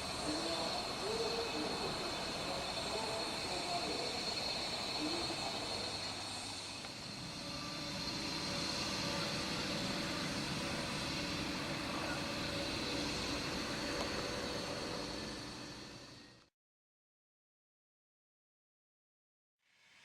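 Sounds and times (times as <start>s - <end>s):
miniature train running: 0.0s - 16.3s.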